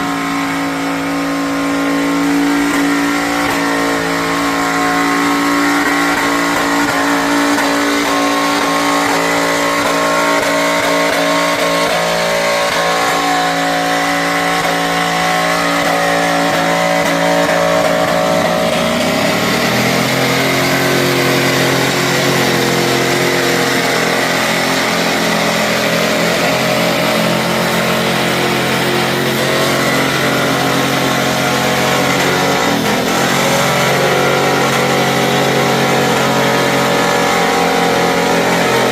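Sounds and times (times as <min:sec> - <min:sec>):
truck engine at high revs: 0:00.0 - 0:38.9.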